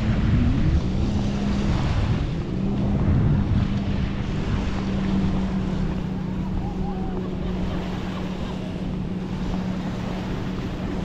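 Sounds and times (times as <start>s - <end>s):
engine droning: 0.0s - 11.0s
wind buffeting microphone: 0.0s - 11.0s.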